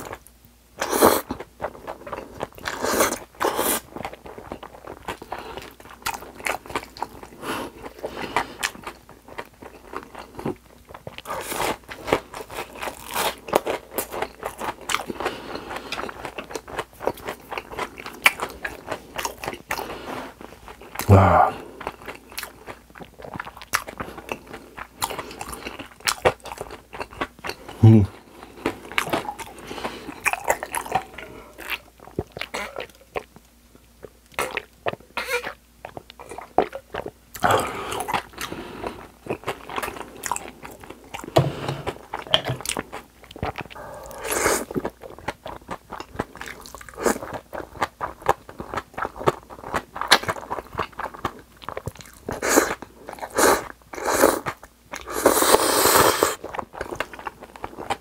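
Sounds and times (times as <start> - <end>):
crunching and wet chewing: 0.0 - 58.0.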